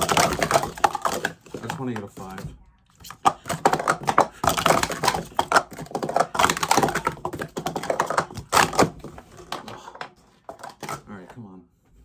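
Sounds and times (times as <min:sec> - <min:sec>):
plastic cups clattering: 0:00.0 - 0:11.5.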